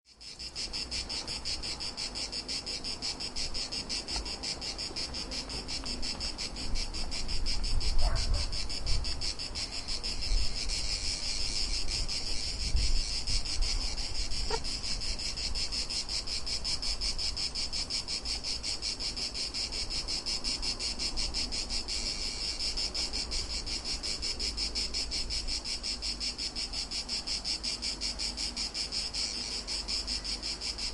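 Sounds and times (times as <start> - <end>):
cicadas buzzing: 0.1 - 30.9.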